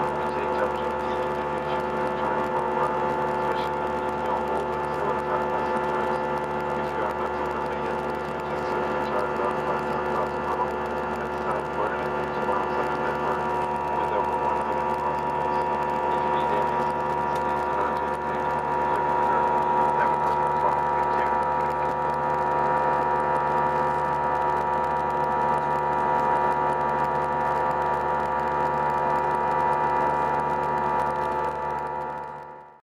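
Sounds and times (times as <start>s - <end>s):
jet engines droning in cabin: 0.0s - 32.2s.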